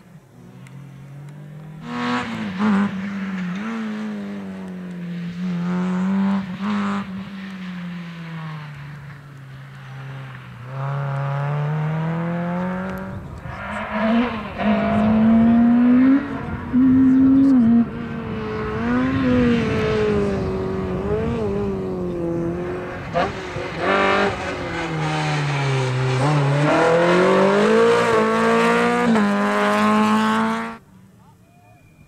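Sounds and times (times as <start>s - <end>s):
rush of passing car noise: 0.0s - 30.9s
rally car engine revving: 0.4s - 30.8s.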